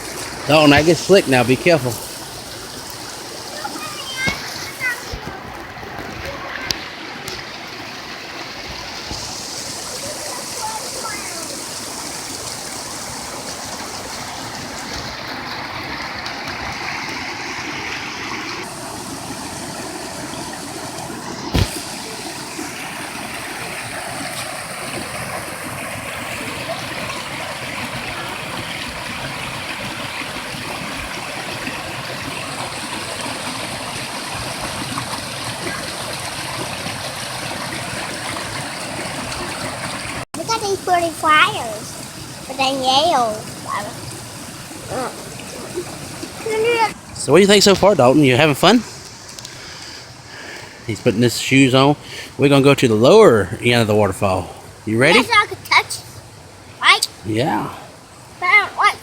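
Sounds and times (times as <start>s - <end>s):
waterfall and creek rushing: 0.0s - 59.0s.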